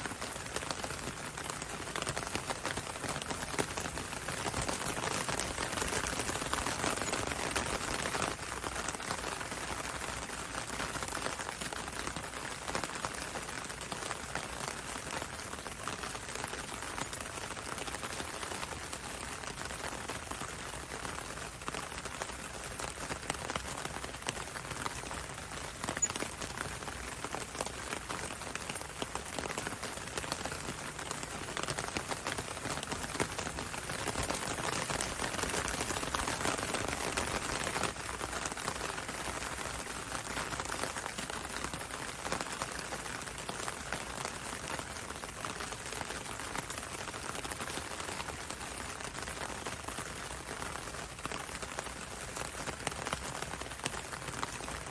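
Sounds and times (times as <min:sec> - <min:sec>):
rain on window and road: 0:00.0 - 0:54.9.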